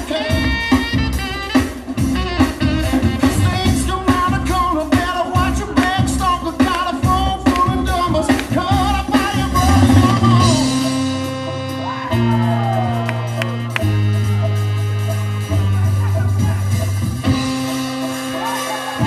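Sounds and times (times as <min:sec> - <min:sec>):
drum beat with singing: 0:00.0 - 0:13.7, 0:15.1 - 0:19.0.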